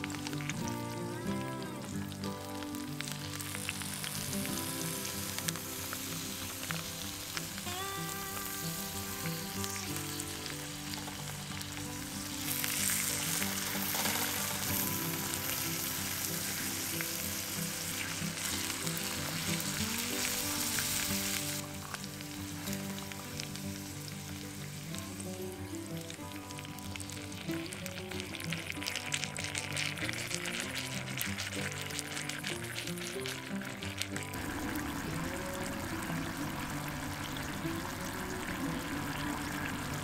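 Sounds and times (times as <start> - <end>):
pork steak sizzling in a pan: 0.0 - 40.0
soft background music: 0.0 - 40.0.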